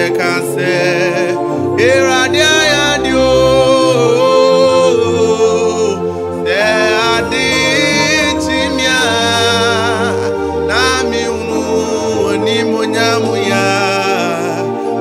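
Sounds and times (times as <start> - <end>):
man singing worship song: 0.0 - 15.0
sustained backing chords: 0.0 - 15.0.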